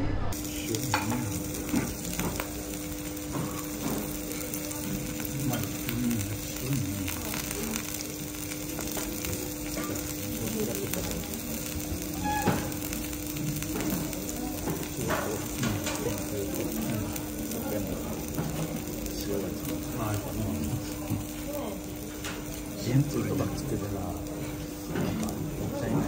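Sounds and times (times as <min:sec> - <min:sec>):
food sizzling on a griddle: 0:00.3 - 0:26.0.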